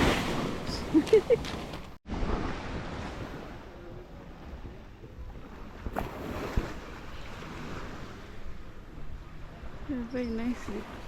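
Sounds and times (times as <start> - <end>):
ocean surf washing: 0.0 - 11.0
wind rumble on microphone: 0.0 - 11.0.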